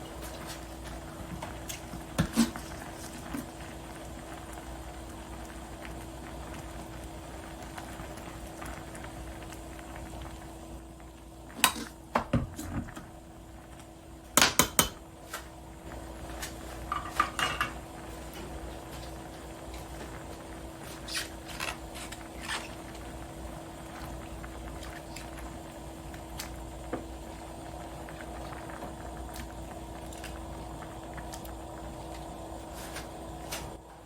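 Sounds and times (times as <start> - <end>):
stew bubbling in a pot: 0.0 - 34.0.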